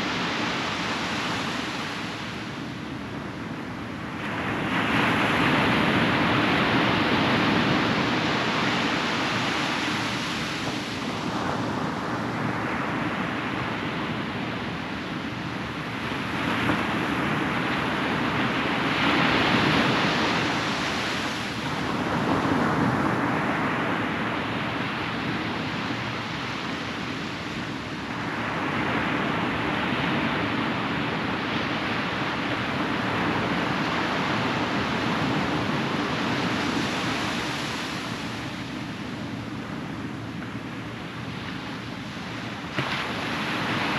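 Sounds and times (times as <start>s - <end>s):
ocean surf breaking on beach: 0.0s - 43.9s.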